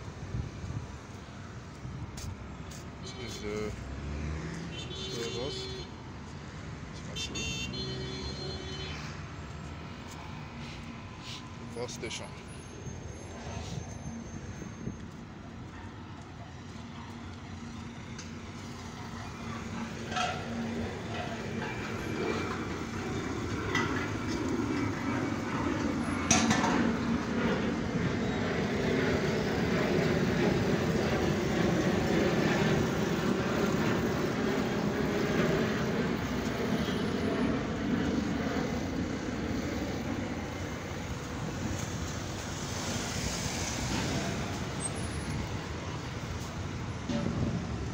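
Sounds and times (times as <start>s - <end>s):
city road traffic: 0.0s - 47.9s.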